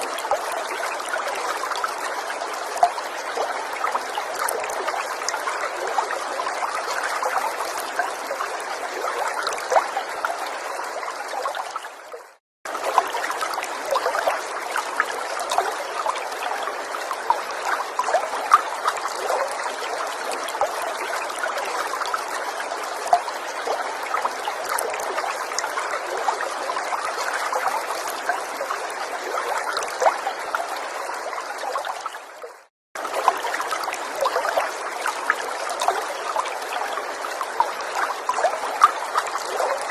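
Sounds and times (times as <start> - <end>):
water stream trickling: 0.0 - 39.9.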